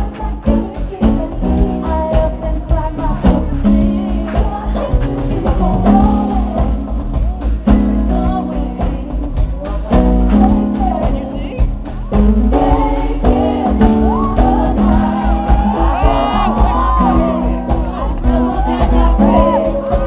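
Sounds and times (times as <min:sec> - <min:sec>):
live band playing: 0:00.0 - 0:20.0
person singing: 0:00.0 - 0:20.0.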